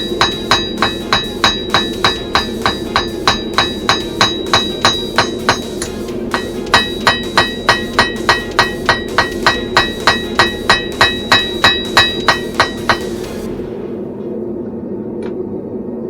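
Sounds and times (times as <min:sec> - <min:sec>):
hammer striking steel on anvil: 0:00.0 - 0:13.5
low drone: 0:00.0 - 0:16.0.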